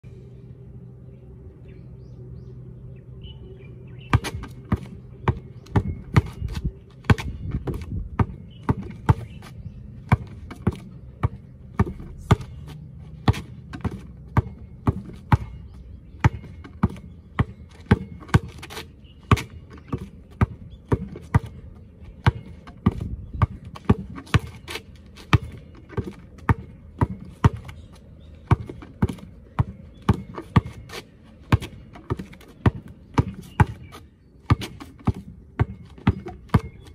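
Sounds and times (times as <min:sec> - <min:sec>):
basketball bouncing on asphalt: 0:04.0 - 0:36.9.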